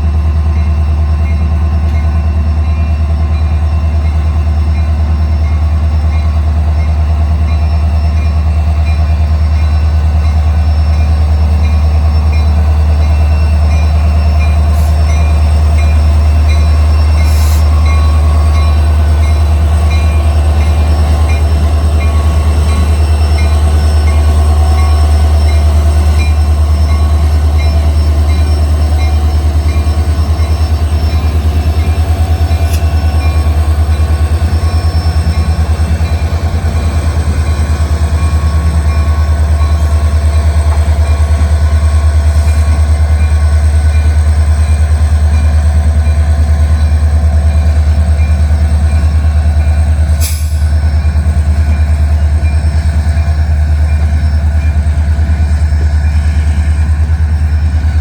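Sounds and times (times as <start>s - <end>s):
freight train rumbling: 0.0s - 58.0s
train wheel squeal: 0.0s - 58.0s.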